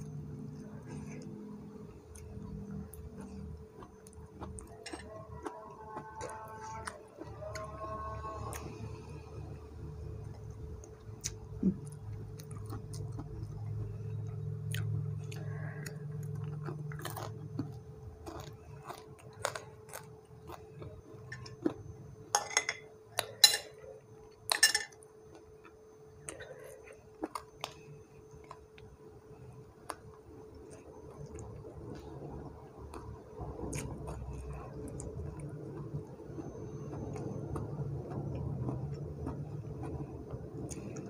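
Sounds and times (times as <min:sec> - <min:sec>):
chewing and mouth sounds: 0:00.0 - 0:07.8, 0:10.3 - 0:22.0, 0:25.3 - 0:41.0.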